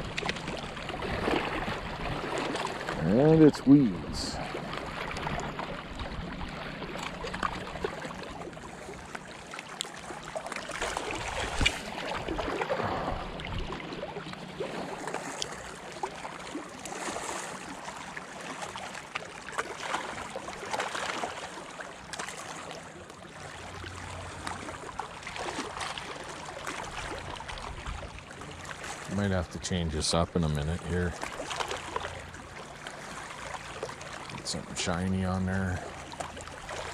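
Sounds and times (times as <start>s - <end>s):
small waves lapping on rocks: 0.0s - 36.9s.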